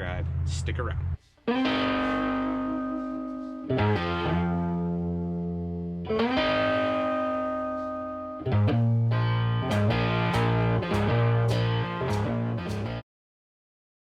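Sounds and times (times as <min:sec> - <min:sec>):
distorted guitar chords: 0:01.5 - 0:13.0.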